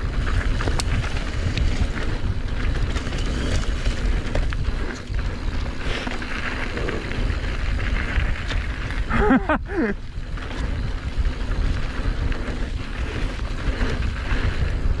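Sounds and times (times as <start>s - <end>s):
tyres rumbling on dirt: 0.0s - 15.0s
wind buffeting microphone: 0.0s - 15.0s.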